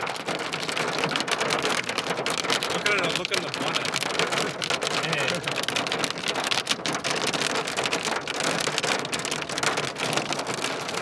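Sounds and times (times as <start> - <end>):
hail and rain pelting car roof: 0.0 - 11.0.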